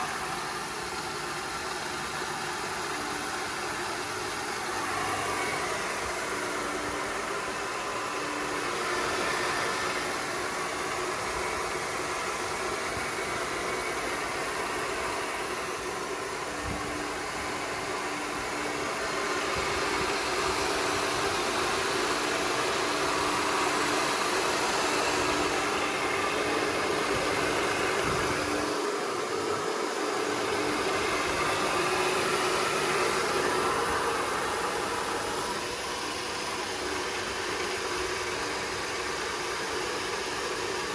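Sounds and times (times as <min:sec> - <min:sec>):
faint motor hum: 0:00.0 - 0:40.9
rice mill whirring: 0:00.0 - 0:40.9.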